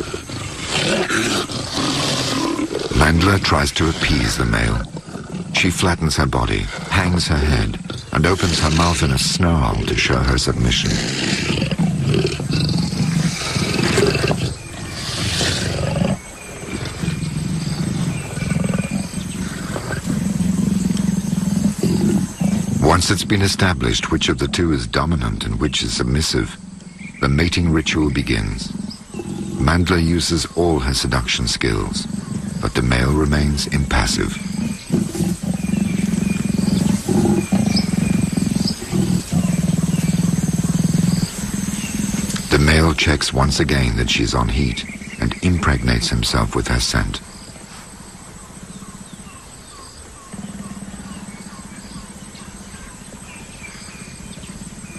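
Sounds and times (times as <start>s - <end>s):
big cats growling and snarling: 0.0s - 54.9s.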